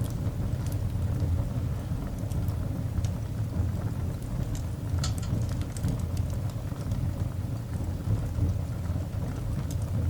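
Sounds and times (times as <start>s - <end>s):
coal fire rumbling: 0.0s - 10.0s
fire crackling and snapping: 0.0s - 10.0s.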